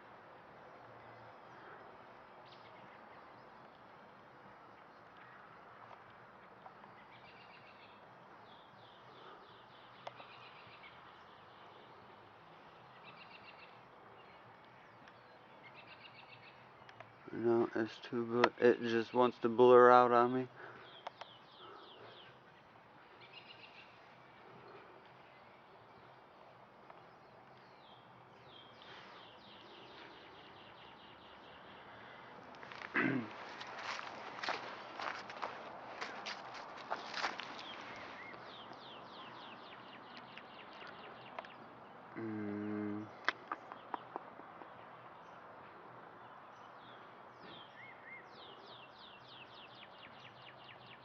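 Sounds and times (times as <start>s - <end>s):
outdoor background noise: 0.0s - 51.0s.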